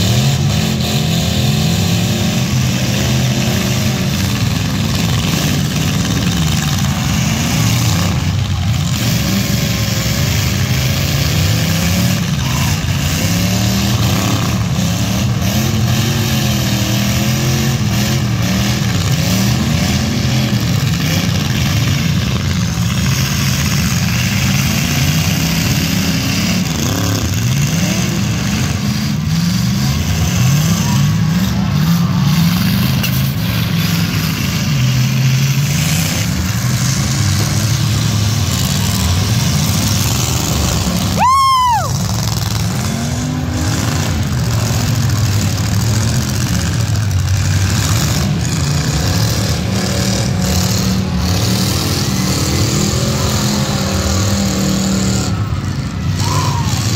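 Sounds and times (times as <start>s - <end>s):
car engines revving hard: 0.0s - 56.9s.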